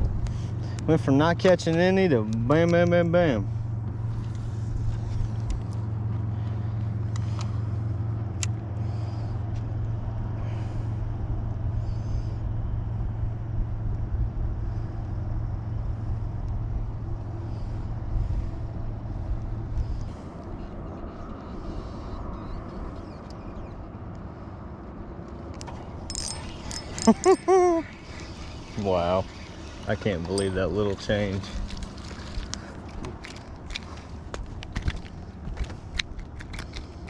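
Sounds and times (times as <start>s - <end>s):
low motor hum: 0.0s - 37.0s.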